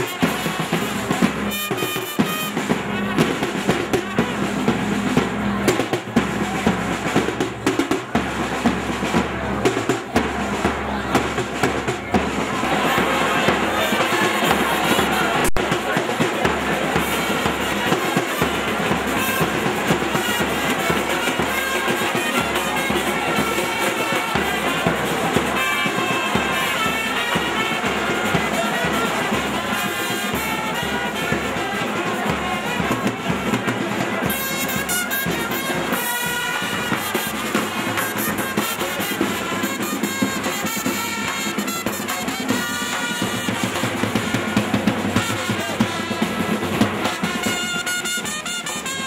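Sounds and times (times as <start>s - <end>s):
brass instruments playing: 0.0s - 3.3s, 12.6s - 49.0s
steady drum beat: 0.0s - 49.0s.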